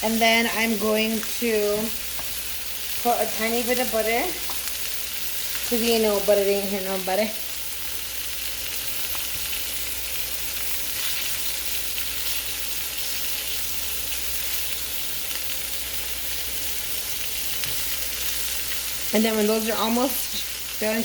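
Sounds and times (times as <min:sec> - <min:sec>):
fish sizzling in a skillet: 0:00.0 - 0:21.0.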